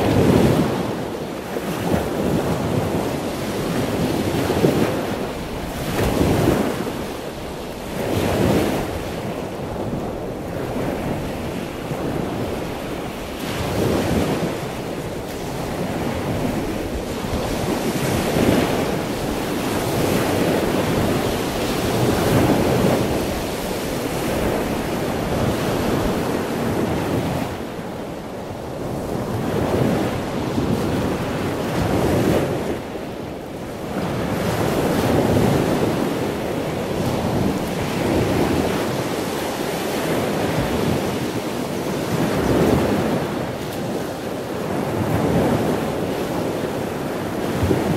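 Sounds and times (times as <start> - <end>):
ocean surf washing ashore: 0.0 - 47.9
wind rumbling on microphone: 0.0 - 47.9.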